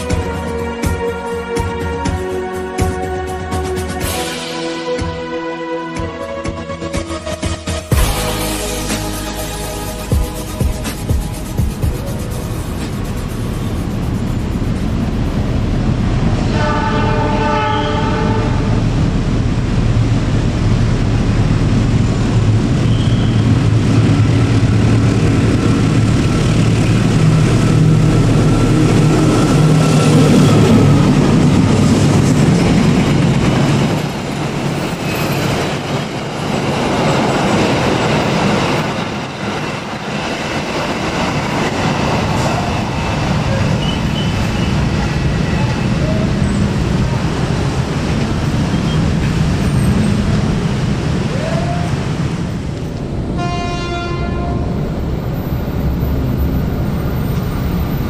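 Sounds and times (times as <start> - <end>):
diesel locomotive engine drone: 0.0 - 58.0
train coaches rumbling on rails: 0.0 - 58.0.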